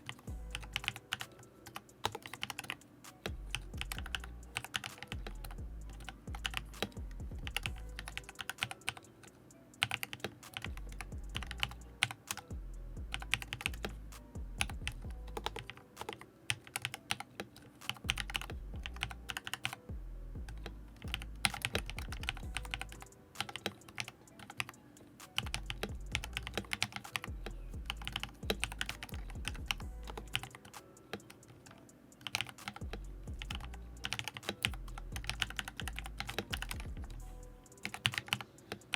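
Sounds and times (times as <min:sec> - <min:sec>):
mechanical keyboard typing: 0:00.0 - 0:19.8, 0:20.5 - 0:38.9.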